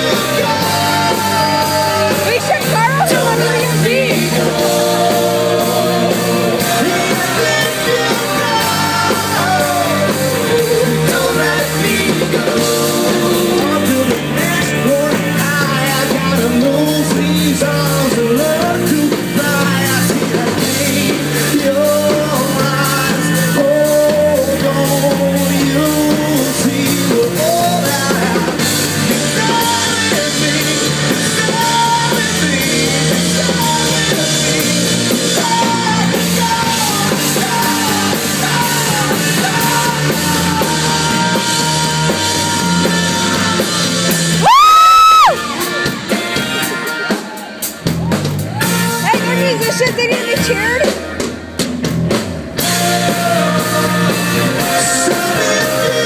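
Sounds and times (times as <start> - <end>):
man singing lead: 0.0 - 47.8, 48.5 - 51.2, 52.6 - 56.0
live rock band playing: 0.0 - 56.0.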